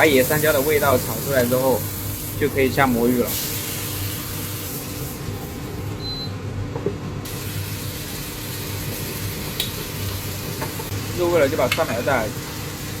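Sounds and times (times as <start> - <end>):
food sizzling in hot oil: 0.0 - 5.8, 7.2 - 13.0.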